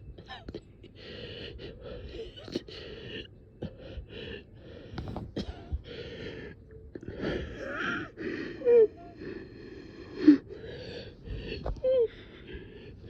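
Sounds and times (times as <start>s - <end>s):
person breathing hard and wheezing: 0.0s - 13.0s.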